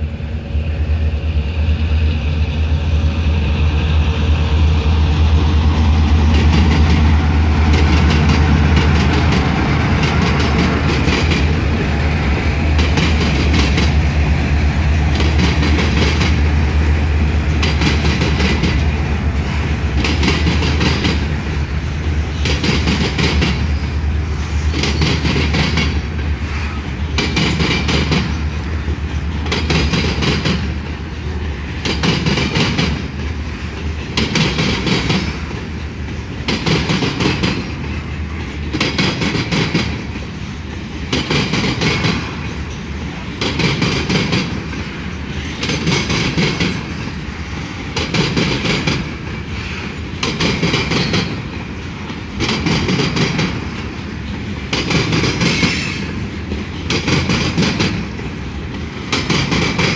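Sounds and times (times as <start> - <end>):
diesel locomotive drone: 0.0 - 59.9
train wheels clacking over rail joints: 2.6 - 59.9.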